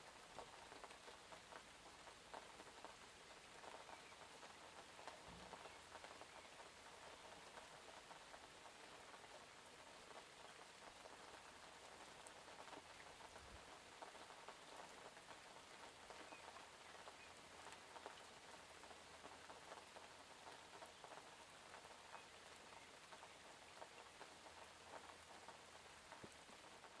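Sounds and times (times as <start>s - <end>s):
raindrops pattering: 0.0s - 27.0s
steady rain hiss: 0.0s - 27.0s.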